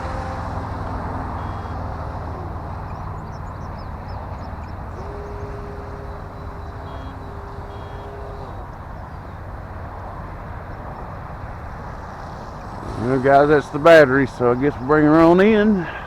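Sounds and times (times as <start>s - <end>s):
model plane motor buzzing: 0.0s - 13.2s
birds chirping faintly: 0.0s - 16.0s.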